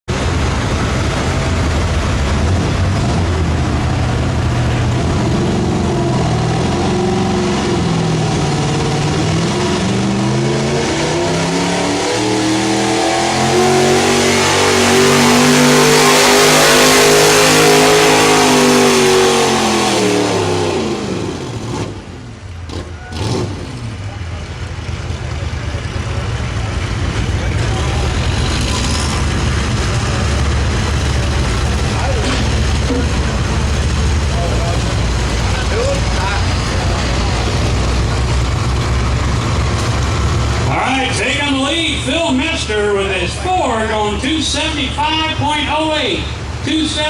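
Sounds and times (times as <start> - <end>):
pickup truck engine at high revs: 0.1 - 47.0.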